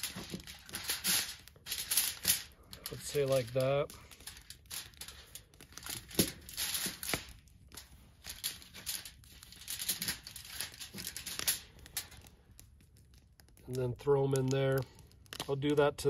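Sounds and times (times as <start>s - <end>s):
crinkly rustling: 0.0s - 15.8s.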